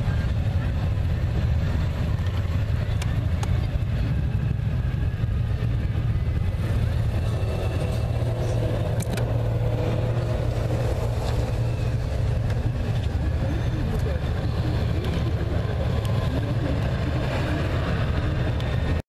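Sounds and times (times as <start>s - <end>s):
motorcycle engines droning: 0.0s - 19.0s.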